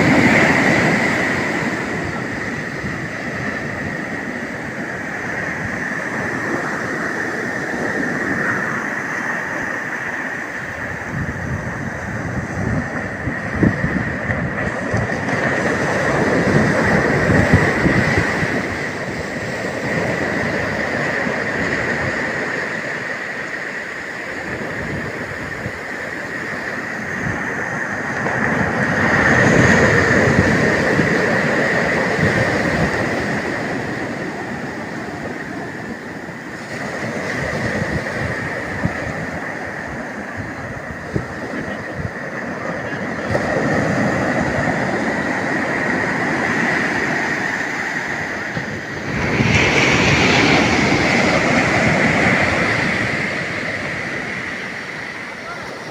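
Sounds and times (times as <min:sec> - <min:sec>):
ocean surf breaking on beach: 0:00.0 - 0:55.9.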